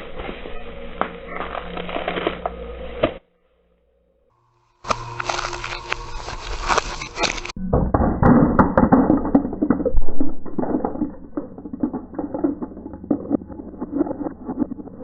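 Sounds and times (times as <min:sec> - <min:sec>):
slowed-down deep cracking: 0:00.0 - 0:03.2, 0:04.8 - 0:15.0.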